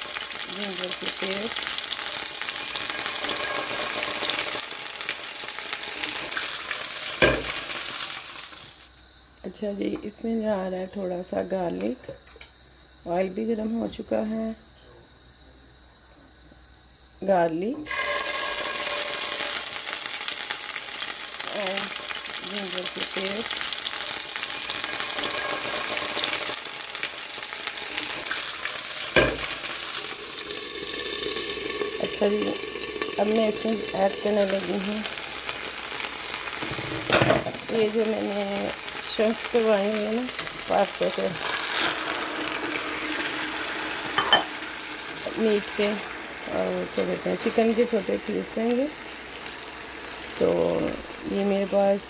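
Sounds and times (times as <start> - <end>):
paste sizzling in hot oil: 0.0 - 9.2, 17.9 - 52.0.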